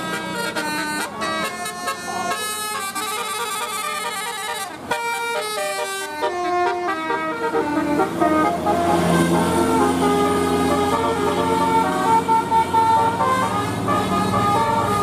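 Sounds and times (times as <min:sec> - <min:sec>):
bus engine: 0:00.0 - 0:15.0
multi-tone musical bus horn: 0:00.0 - 0:15.0.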